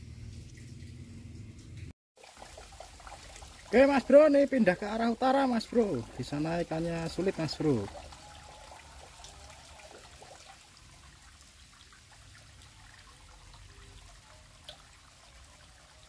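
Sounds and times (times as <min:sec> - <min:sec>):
water trickling in river: 0:00.0 - 0:16.0.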